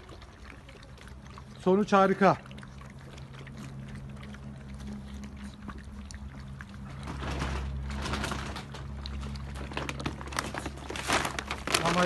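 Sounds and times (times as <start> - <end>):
puppies chewing and lapping: 0.0 - 12.0.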